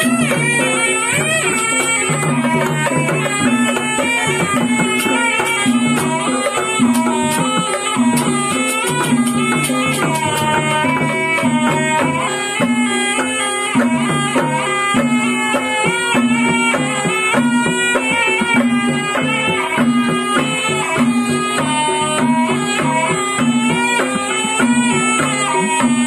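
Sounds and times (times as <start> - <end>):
drums beating: 0.0 - 26.0
gamelan ensemble: 0.0 - 26.0
reedy shawm melody: 0.0 - 26.0.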